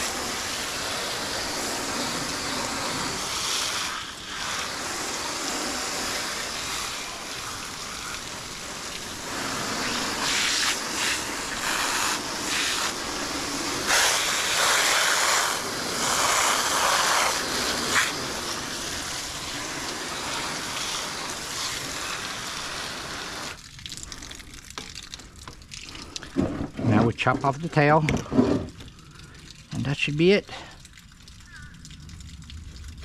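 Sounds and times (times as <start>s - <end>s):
water spraying from hose wand: 0.0s - 33.0s.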